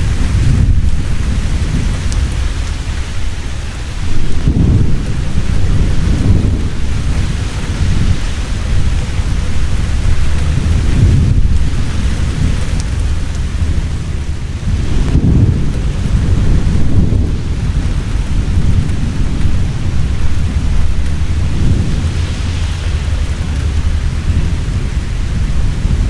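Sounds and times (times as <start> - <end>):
heavy rain pouring: 0.0 - 26.0
rolling thunder rumbling: 0.0 - 26.0.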